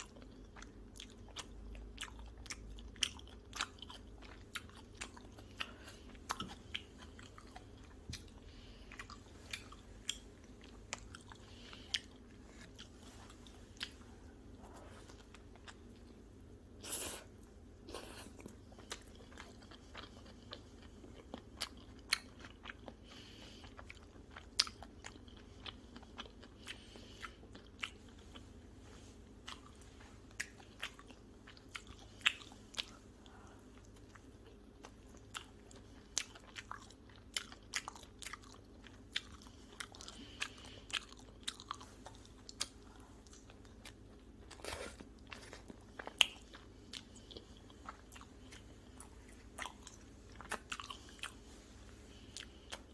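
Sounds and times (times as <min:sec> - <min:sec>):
pizza crunching while chewed: 0:00.0 - 0:17.2, 0:17.8 - 0:52.9.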